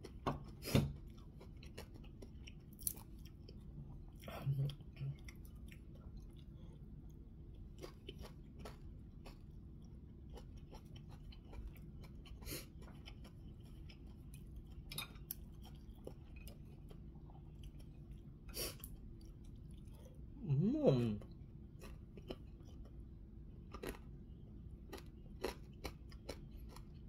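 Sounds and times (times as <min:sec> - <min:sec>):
person chewing food: 0:00.0 - 0:20.4, 0:21.0 - 0:27.0.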